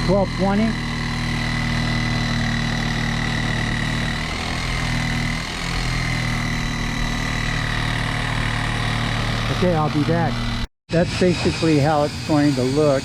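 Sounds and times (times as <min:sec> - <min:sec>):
engine humming with high whine: 0:00.0 - 0:13.0.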